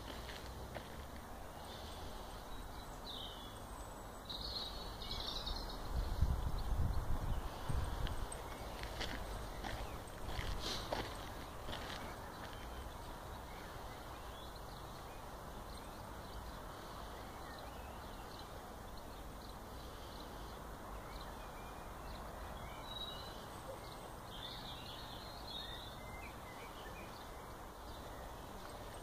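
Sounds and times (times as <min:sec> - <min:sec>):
outdoor background noise: 0:00.0 - 0:29.0.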